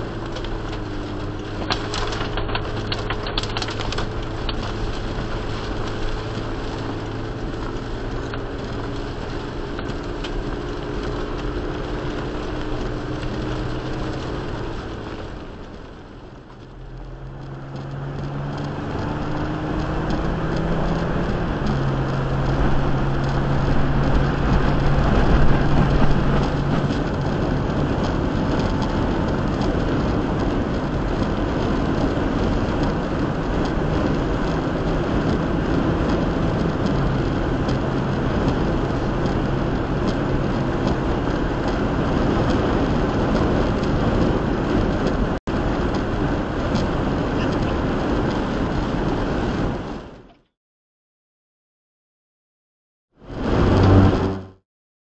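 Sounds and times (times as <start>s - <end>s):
car engine hum: 0.0s - 50.5s, 53.3s - 54.6s
road noise inside car: 0.0s - 50.5s, 53.2s - 54.6s
tyres on wet pavement: 0.0s - 50.5s, 53.2s - 54.6s.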